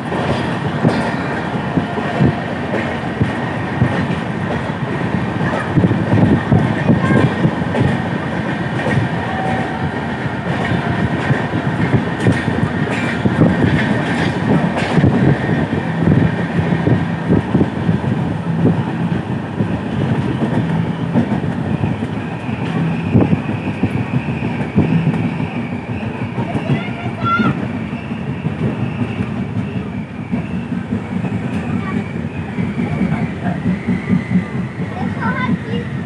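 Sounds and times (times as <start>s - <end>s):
train rumble: 0.0s - 36.0s
train wheels knocking: 0.0s - 36.0s.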